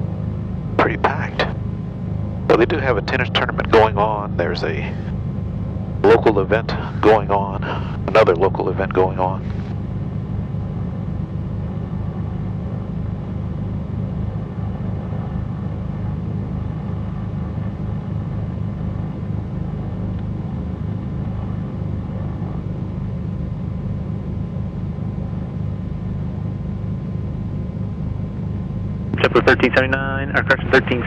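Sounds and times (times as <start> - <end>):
twin piston aircraft engines droning: 0.0 - 31.0.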